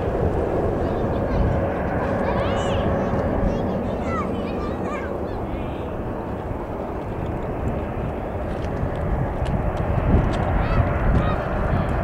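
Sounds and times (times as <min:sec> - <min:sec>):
distant jet engines running: 0:00.0 - 0:12.0.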